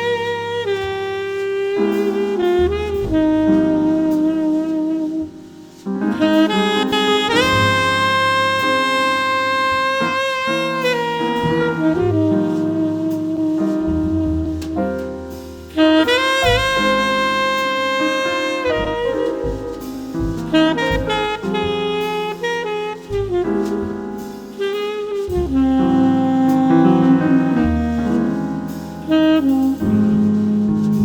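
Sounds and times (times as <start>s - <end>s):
double bass: 0.0s - 31.0s
jazz saxophone ballad melody: 0.0s - 31.0s
piano: 0.0s - 31.0s.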